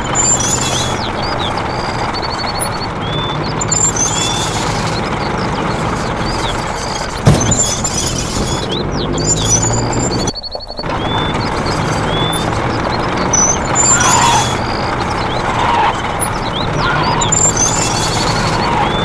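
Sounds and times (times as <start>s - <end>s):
birds chirping: 0.0s - 19.0s
engine-like rumble: 0.0s - 19.0s.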